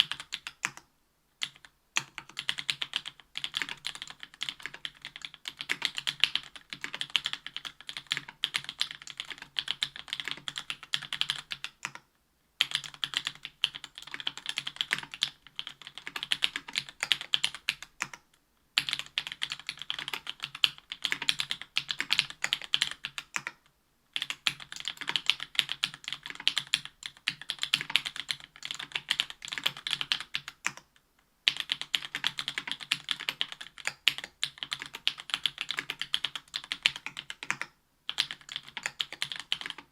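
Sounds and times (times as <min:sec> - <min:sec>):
fast keyboard typing: 0:00.0 - 0:12.0, 0:12.6 - 0:18.2, 0:18.8 - 0:23.6, 0:24.2 - 0:30.9, 0:31.5 - 0:39.9.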